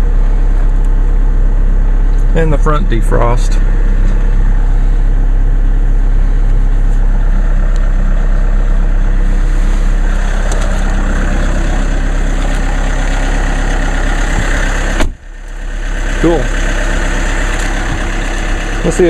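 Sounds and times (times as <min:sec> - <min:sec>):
diesel car engine idling: 0:00.0 - 0:19.0.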